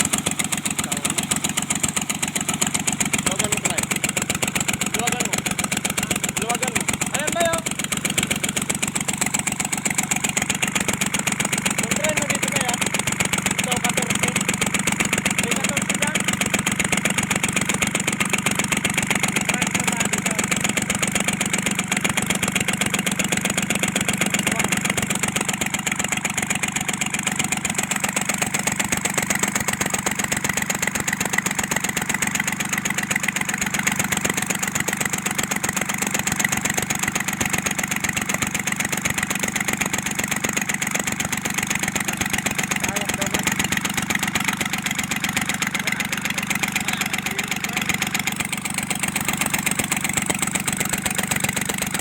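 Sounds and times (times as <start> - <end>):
diesel tractor engine idling: 0.0 - 52.0
engine knocking: 0.0 - 52.0.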